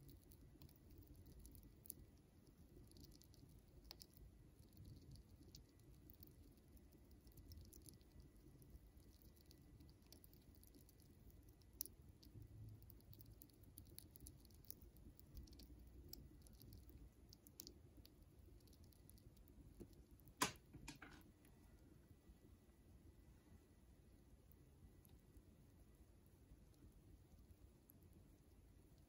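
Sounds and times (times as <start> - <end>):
chipmunk gnawing a nut: 0.0 - 20.6, 24.0 - 29.0.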